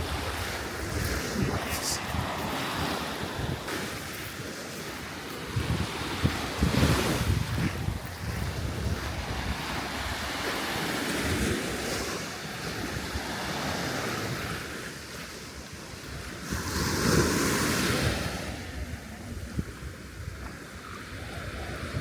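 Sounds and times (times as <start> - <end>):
sea waves washing onto shore: 0.0 - 22.0
wind rumbling on microphone: 0.0 - 22.0.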